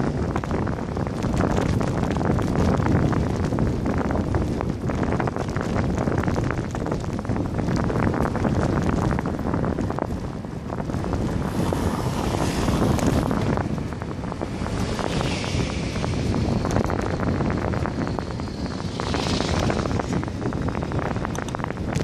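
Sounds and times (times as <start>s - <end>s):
passing road traffic: 0.0s - 22.0s
wind buffeting microphone: 0.0s - 22.0s.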